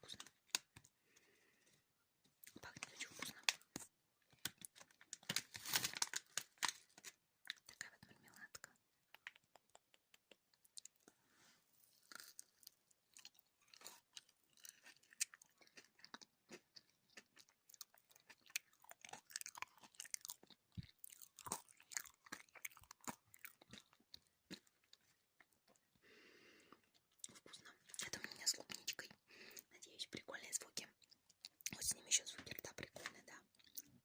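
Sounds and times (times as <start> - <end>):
chewing gummy candies: 2.4 - 11.1, 11.9 - 26.0, 26.6 - 29.7, 30.8 - 34.0.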